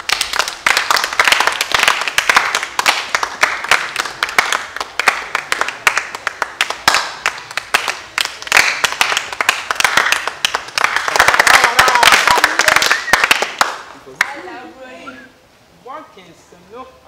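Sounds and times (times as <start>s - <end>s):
group of people clapping: 0.0s - 14.4s.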